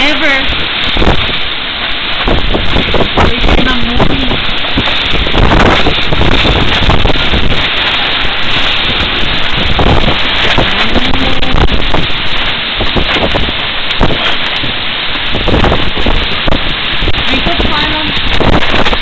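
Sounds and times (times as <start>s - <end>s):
driving rain: 0.0s - 19.0s
strong wind buffeting microphone: 0.0s - 19.0s.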